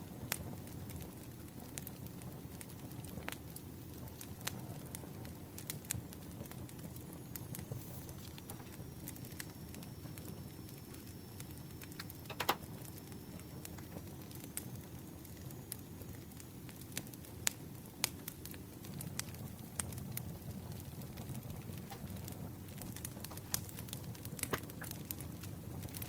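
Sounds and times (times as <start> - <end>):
campfire crackling: 0.0 - 26.0
sharp pops of fire: 0.0 - 26.0.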